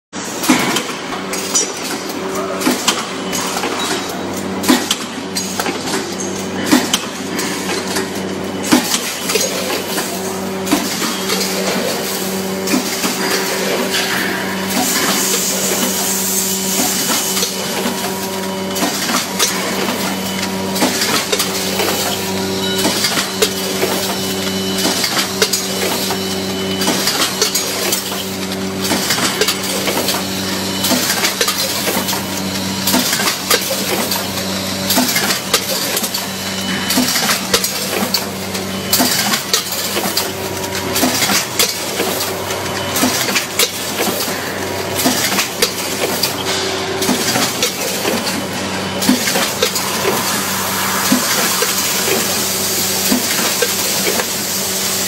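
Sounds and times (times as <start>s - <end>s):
machine mechanism clattering: 0.4s - 54.7s.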